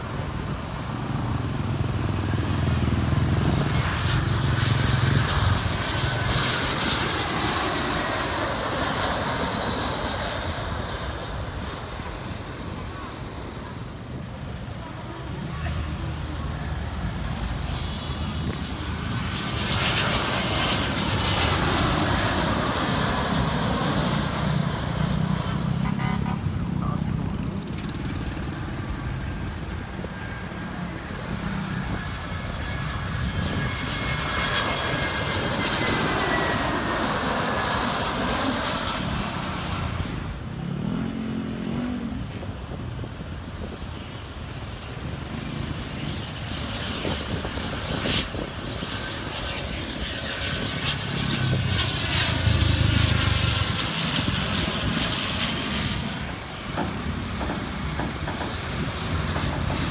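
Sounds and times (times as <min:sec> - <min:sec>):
jet airliners passing overhead: 0:00.0 - 0:59.9.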